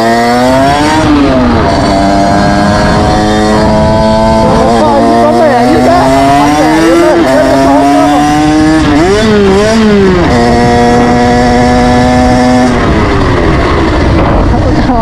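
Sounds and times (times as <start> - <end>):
moped engine at high revs: 0.0 - 15.0.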